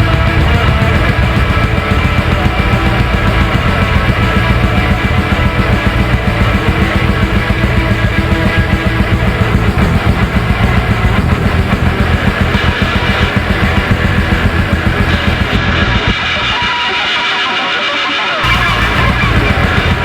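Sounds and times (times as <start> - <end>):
heavy metal music: 0.0 - 20.0.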